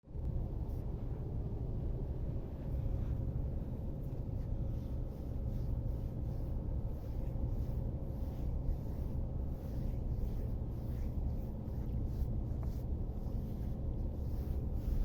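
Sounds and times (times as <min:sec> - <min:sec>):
soft hissing wave washes: 0:02.2 - 0:15.0.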